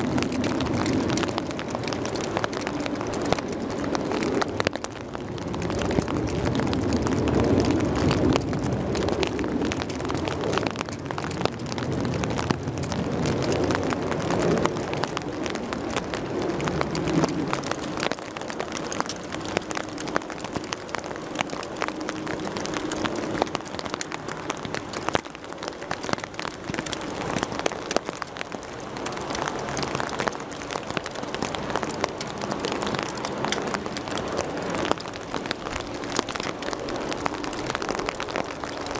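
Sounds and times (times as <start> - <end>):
jet airliner engines rumbling: 0.0 - 38.9
rain falling: 0.0 - 38.9
raindrops ticking on a surface: 0.0 - 38.9.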